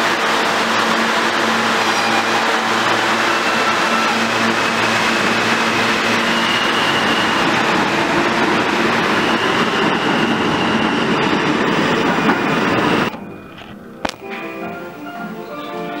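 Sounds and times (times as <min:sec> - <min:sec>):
subway train wheels rumbling: 0:00.0 - 0:16.0.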